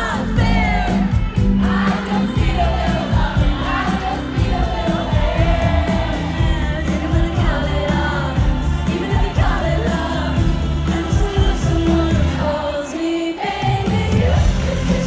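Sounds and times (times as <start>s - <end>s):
live pop band: 0.0s - 15.0s
woman singing: 0.0s - 15.0s.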